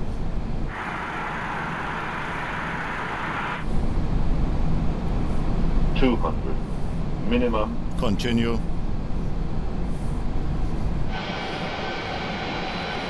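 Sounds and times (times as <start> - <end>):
jet engine rush: 0.0 - 7.5, 8.8 - 13.0
cockpit airflow rumble: 0.0 - 13.0.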